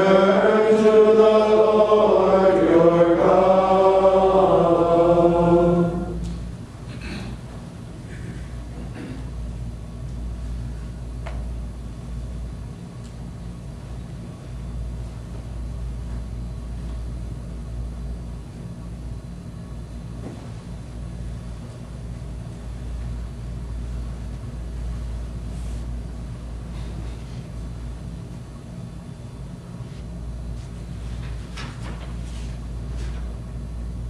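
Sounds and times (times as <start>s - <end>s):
low room rumble: 0.0s - 34.0s.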